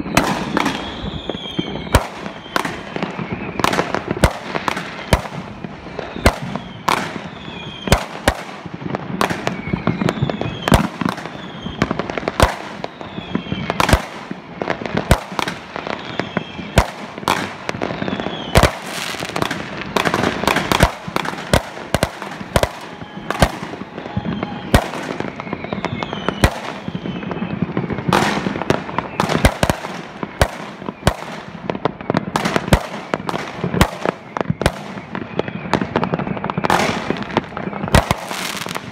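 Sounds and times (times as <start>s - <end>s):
fireworks bangs: 0.0s - 38.9s
fireworks crackle: 0.0s - 38.9s.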